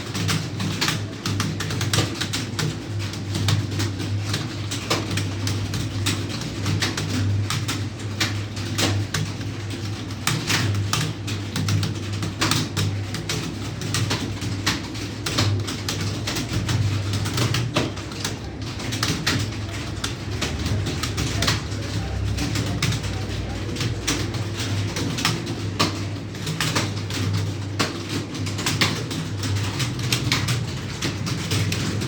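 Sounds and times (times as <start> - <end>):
keyboards clattering: 0.0 - 32.0.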